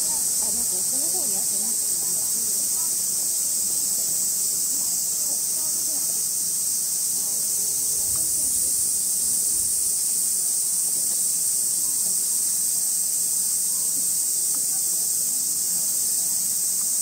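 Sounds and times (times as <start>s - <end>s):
cicadas hissing: 0.0s - 17.0s
faint distant human voices: 0.0s - 17.0s.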